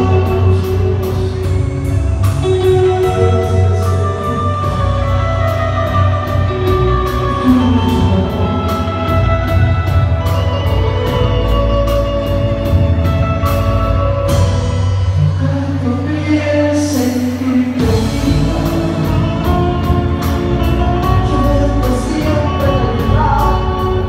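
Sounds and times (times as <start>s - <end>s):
drum kit beat with cymbals: 0.0s - 15.5s, 16.2s - 24.0s
bass: 0.0s - 24.0s
held melody notes: 0.0s - 24.0s.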